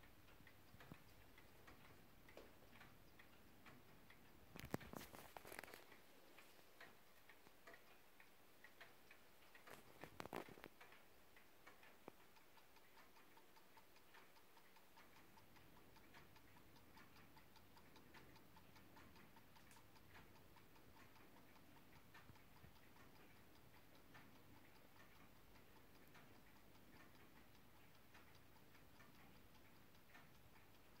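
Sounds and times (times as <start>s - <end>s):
clock ticking: 0.0s - 31.0s.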